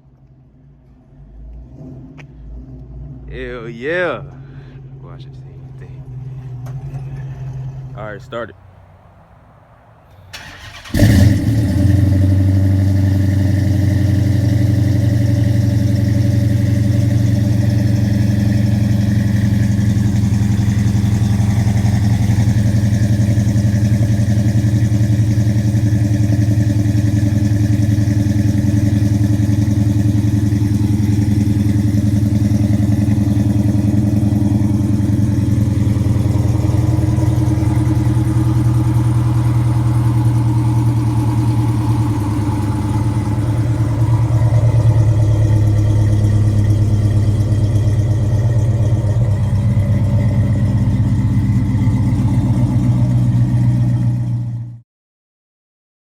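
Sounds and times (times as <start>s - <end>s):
car engine starting and idling: 0.0s - 54.8s.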